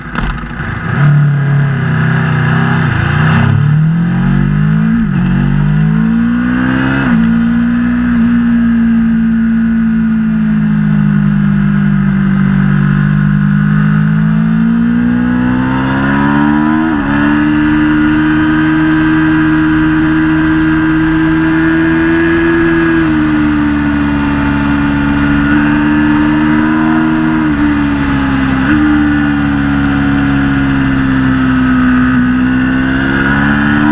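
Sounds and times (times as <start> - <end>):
motorcycle engine accelerating hard: 0.0 - 33.9.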